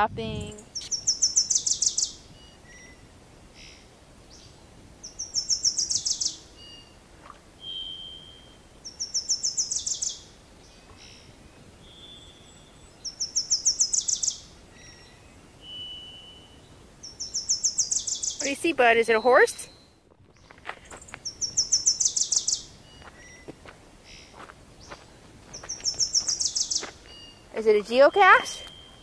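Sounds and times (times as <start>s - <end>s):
songbird singing falling notes: 0.3s - 3.0s, 4.3s - 23.7s, 24.8s - 29.0s.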